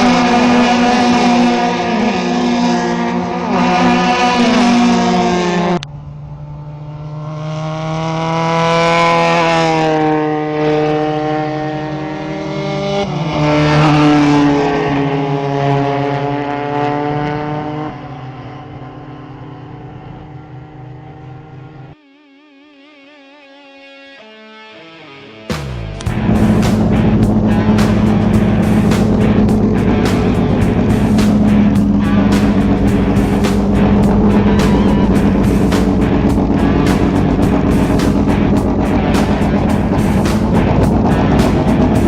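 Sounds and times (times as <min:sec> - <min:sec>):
racing cars passing: 0:00.0 - 0:22.0, 0:25.7 - 0:42.0.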